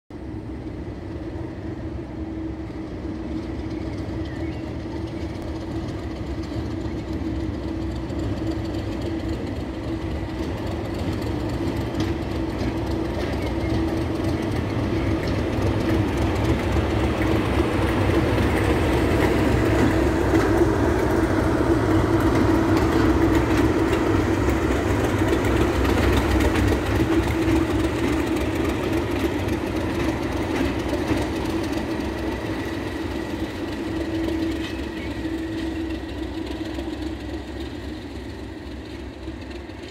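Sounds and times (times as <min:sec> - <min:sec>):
diesel locomotive engine droning: 0:00.1 - 0:39.9.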